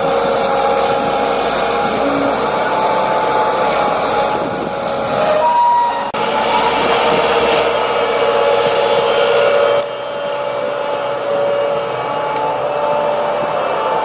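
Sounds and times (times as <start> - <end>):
diesel machinery engine whining: 0.0 - 14.0.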